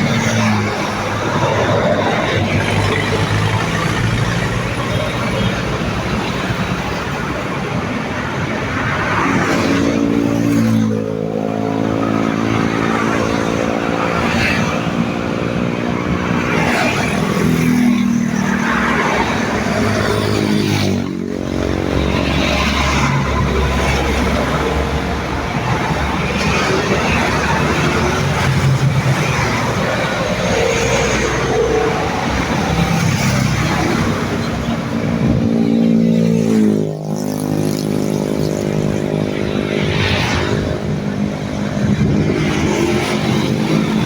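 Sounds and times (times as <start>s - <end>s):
traffic passing at speed: 0.0s - 44.0s
vehicle passing close by: 8.2s - 44.0s.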